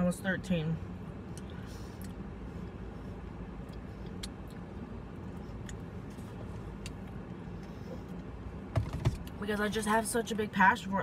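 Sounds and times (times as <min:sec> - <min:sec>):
car engine idling hum: 0:00.0 - 0:11.0.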